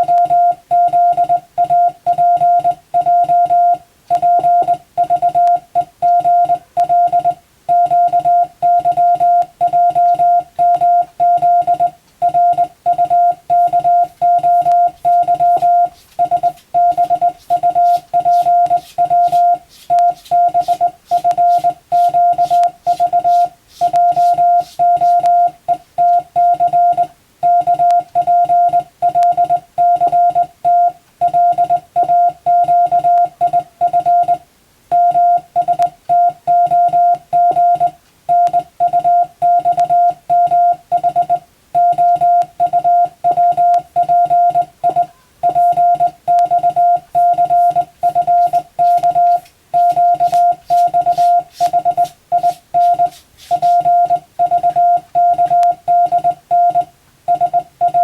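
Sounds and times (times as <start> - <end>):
morse code beeps: 0.0 - 58.0.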